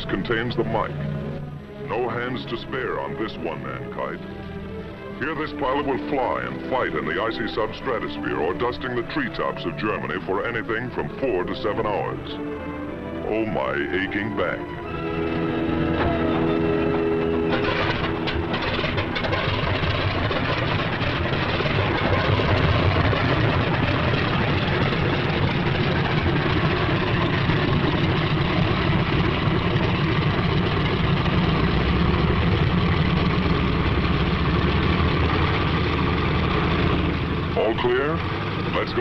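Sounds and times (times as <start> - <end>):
radial aircraft engine running: 0.0 - 39.0.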